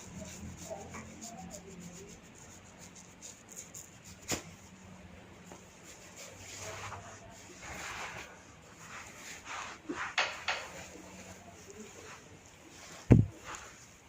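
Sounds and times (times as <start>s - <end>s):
hands rubbing head and neck: 0.0s - 4.8s, 5.5s - 14.0s.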